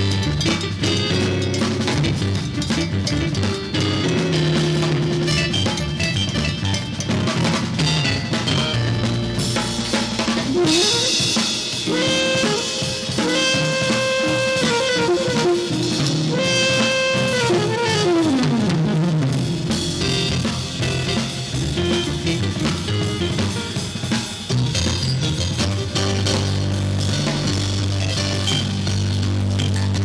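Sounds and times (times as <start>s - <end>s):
drums and cymbals: 0.0s - 30.0s
electric keyboard sliding notes: 0.0s - 30.0s.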